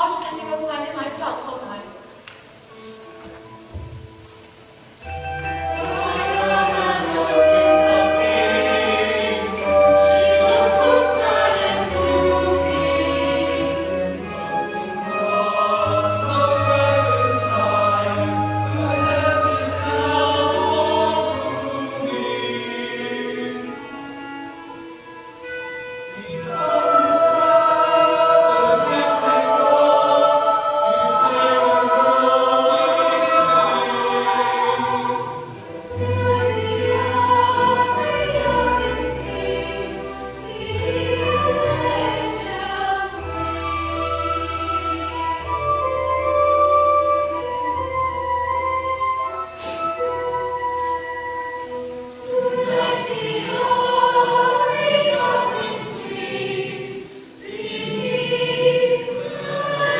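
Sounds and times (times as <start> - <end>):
orchestral accompaniment: 0.0 - 59.9
chorus singing held notes: 5.0 - 59.9.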